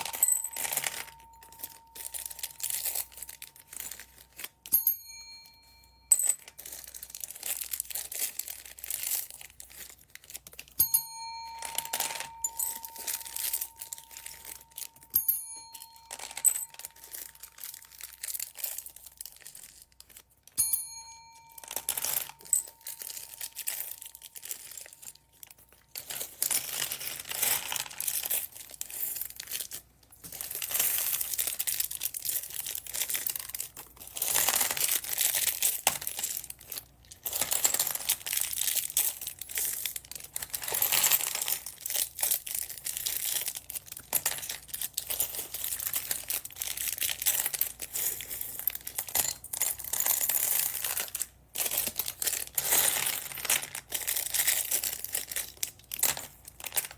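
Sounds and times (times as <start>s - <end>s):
plastic bags crinkling: 0.0s - 4.7s, 6.4s - 15.1s, 15.7s - 20.6s, 21.4s - 56.9s.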